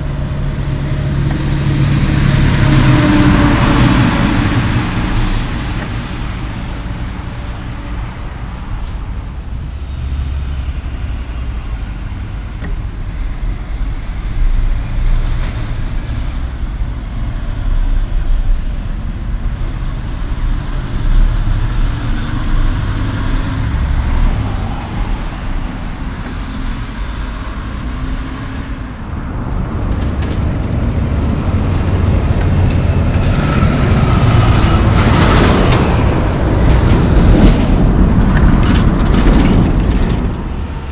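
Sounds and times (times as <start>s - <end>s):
trucks driving past: 0.0s - 40.9s
tyre and road noise: 0.0s - 40.9s.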